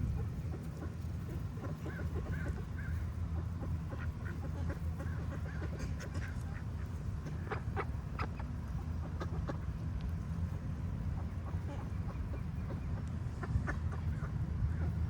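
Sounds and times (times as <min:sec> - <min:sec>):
ducks quacking: 0:00.0 - 0:09.8, 0:10.9 - 0:15.0
low background rumble: 0:00.0 - 0:15.0.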